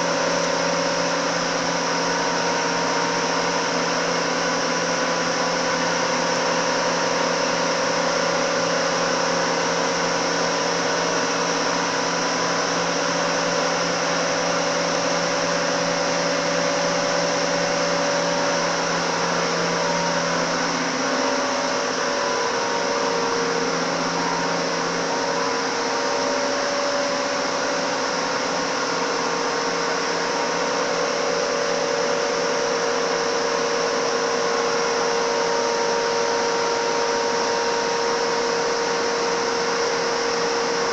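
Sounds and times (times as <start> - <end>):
grinding machine whirring: 0.0 - 40.9.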